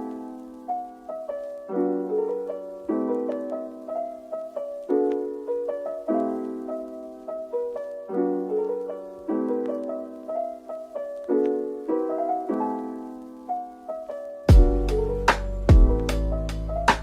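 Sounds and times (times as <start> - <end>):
piano playing chords: 0.0 - 17.0.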